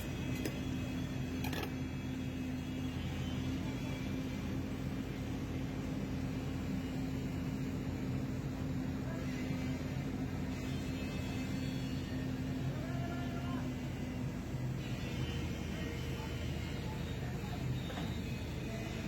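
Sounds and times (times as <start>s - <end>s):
large engine humming: 0.0s - 19.0s.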